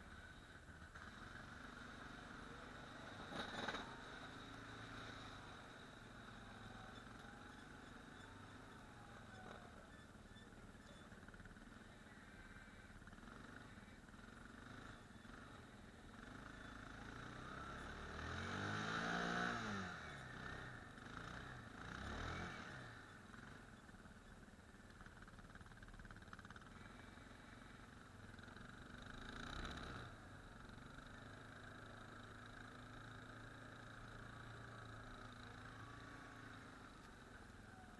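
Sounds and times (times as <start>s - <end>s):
atv engine revving: 0.8s - 37.9s.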